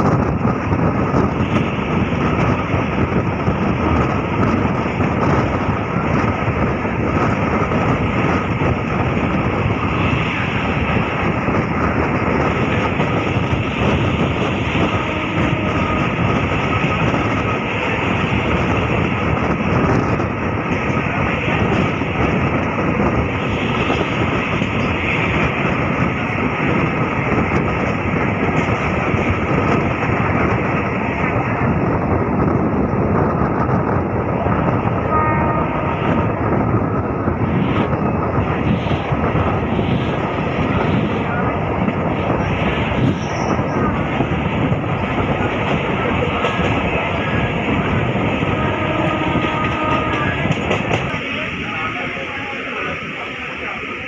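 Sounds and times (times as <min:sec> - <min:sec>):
rushing air: 0:00.0 - 0:54.0
train wheels rumbling on rails: 0:00.0 - 0:54.0.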